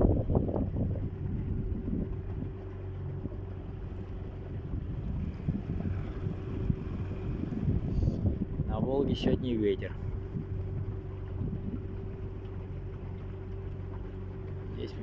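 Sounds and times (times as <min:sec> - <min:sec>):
wind buffeting microphone: 0:00.0 - 0:13.0
small boat motor running: 0:00.0 - 0:15.0.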